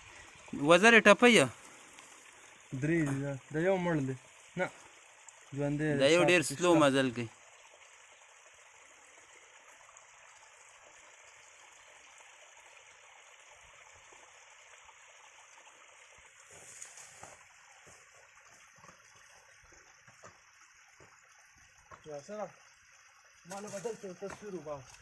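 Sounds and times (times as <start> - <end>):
water trickling: 0.0 - 25.0.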